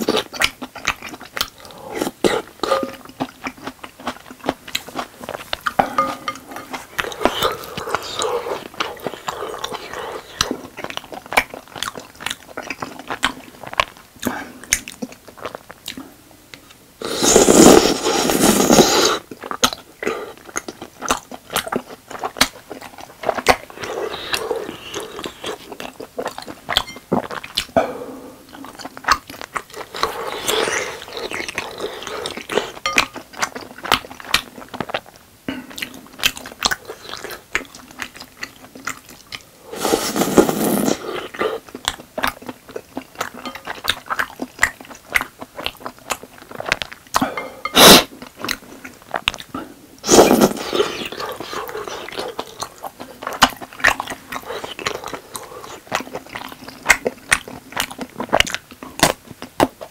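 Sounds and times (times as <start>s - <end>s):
close chewing mouth sounds: 0.0s - 27.8s, 28.4s - 59.9s.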